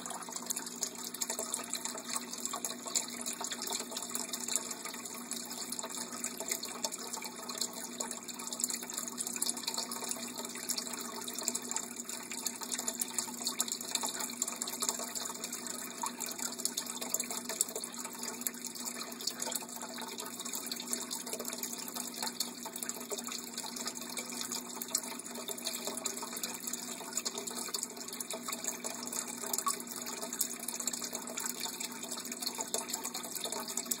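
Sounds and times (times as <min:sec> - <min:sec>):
water splashing into tank: 0:00.0 - 0:34.0.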